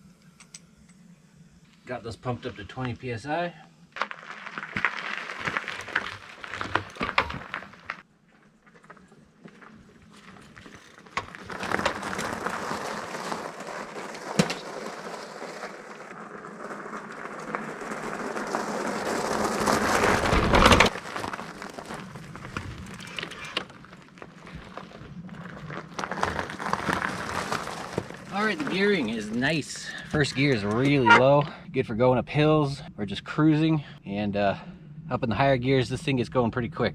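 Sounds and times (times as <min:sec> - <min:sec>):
bike tyre noise: 0:00.0 - 0:31.6.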